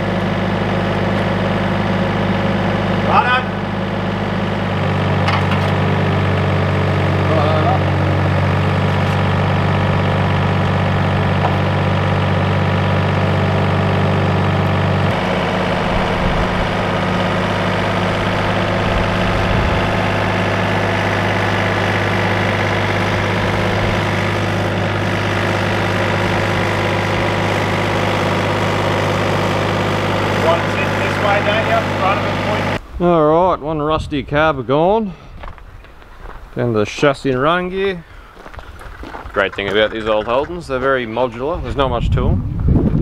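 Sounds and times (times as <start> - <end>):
diesel engine running: 0.0 - 33.2, 34.0 - 43.0.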